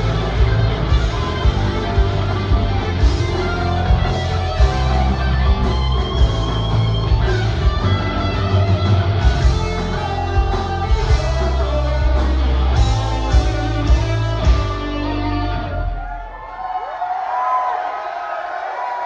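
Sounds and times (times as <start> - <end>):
distorted electric guitar: 0.0 - 16.1
heavy bass: 0.0 - 16.2.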